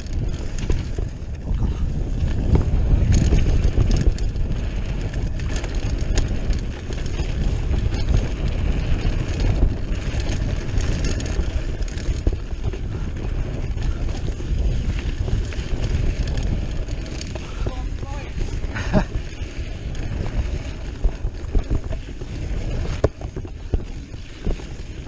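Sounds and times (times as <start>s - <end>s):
bike frame clicks and rattles: 0.0s - 25.0s
bike tyres rumbling on dirt: 0.0s - 25.0s
wind buffeting microphone: 0.0s - 25.0s.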